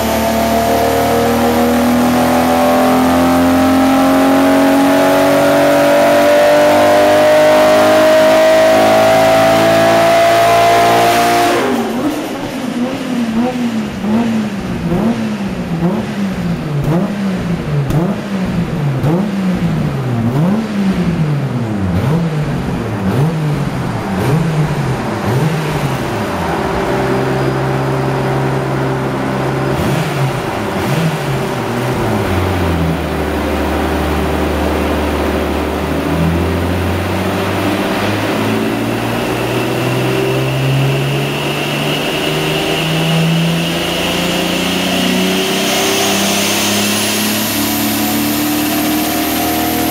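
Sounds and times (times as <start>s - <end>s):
turbocharged car engine revving: 0.0s - 49.9s.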